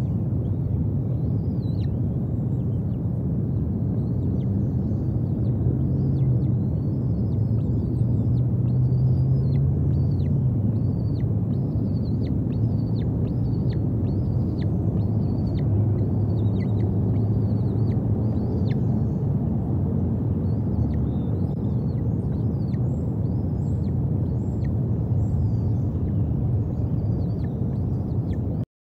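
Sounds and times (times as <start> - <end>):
low outdoor rumble: 0.0 - 28.7.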